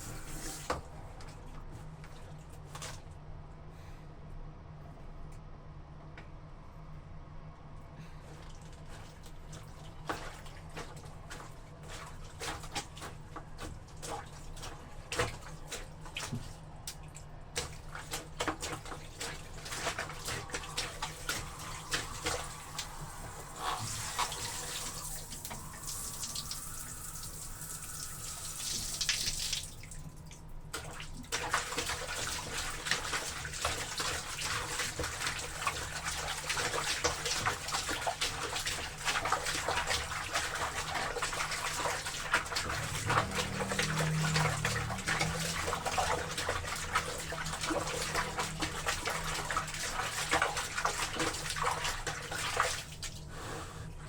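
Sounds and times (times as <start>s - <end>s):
water splashing in a tub: 8.2s - 53.7s.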